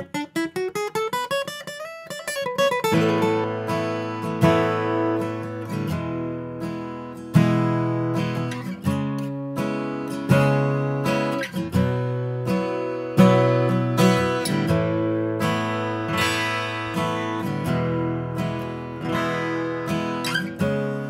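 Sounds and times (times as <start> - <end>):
acoustic guitar chords strummed: 0.0 - 21.0.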